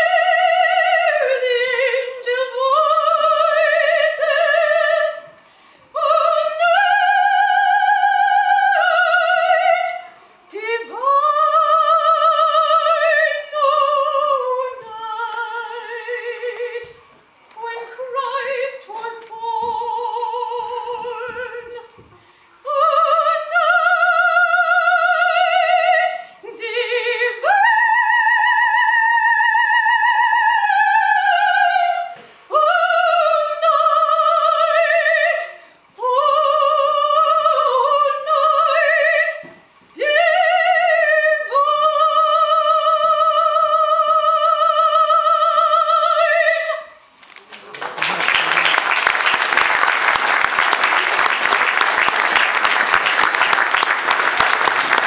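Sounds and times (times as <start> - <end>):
woman singing classical soprano: 0.0 - 17.0, 17.6 - 22.0, 22.6 - 47.0.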